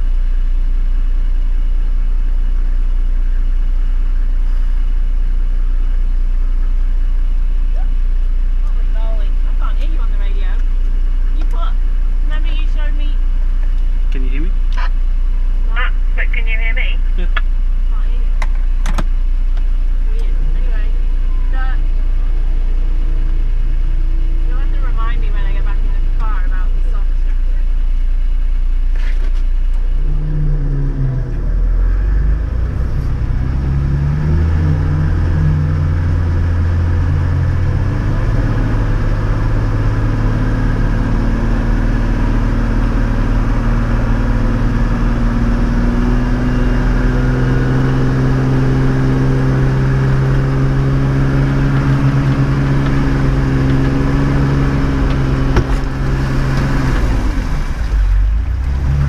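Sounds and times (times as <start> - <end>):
vehicle engine revving under load: 0.0 - 59.0.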